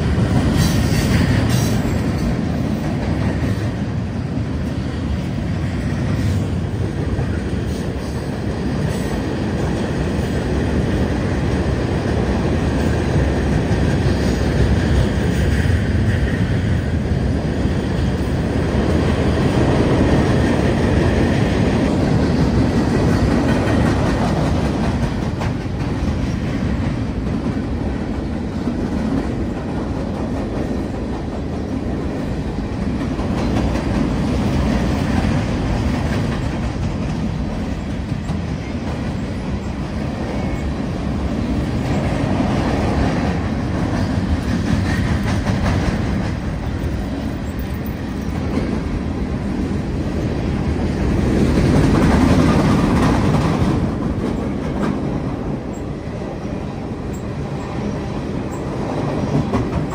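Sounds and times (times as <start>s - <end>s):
train rumbling over bridge: 0.0s - 59.9s.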